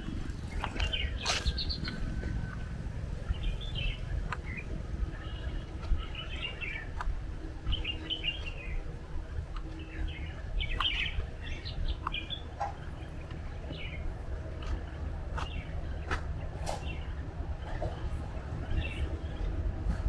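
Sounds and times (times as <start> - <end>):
birds chirping: 0.0 - 20.0
steady low rumble: 0.0 - 20.0.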